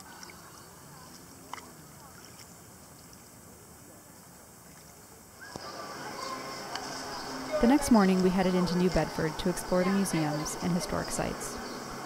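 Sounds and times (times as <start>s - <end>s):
calm water hiss: 0.0s - 12.0s
faint distant voices: 0.0s - 12.0s.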